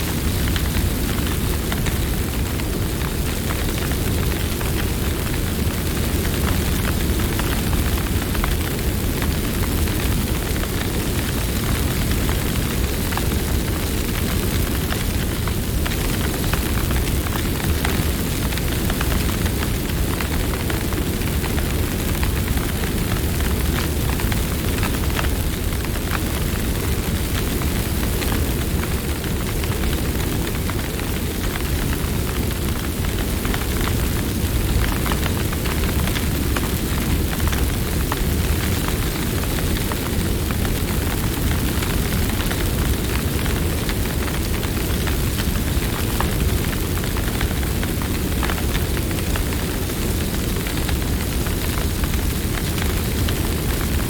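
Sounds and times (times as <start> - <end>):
low rumble of burning wood: 0.0 - 54.0.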